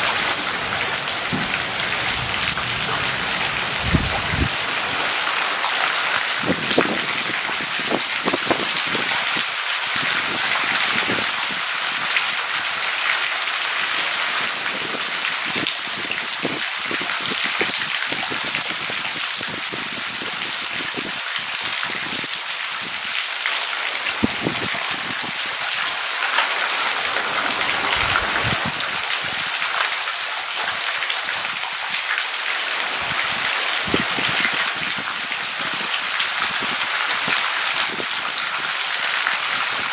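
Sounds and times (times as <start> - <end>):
heavy rain hissing: 0.0 - 39.9
raindrops tapping near microphone: 0.0 - 39.9.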